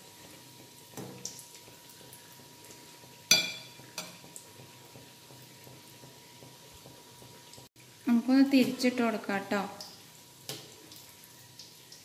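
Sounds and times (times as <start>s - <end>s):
meat deep-frying in oil: 0.0s - 12.0s.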